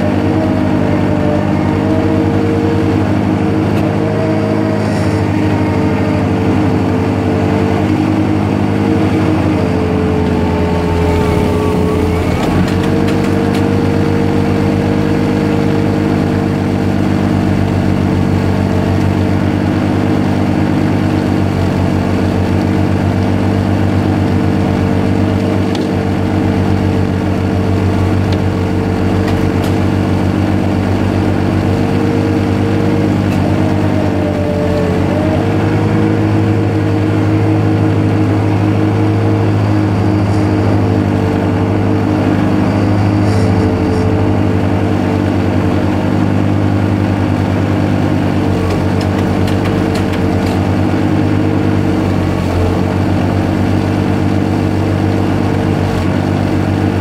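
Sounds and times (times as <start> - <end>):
ice resurfacer engine running: 0.0 - 57.0.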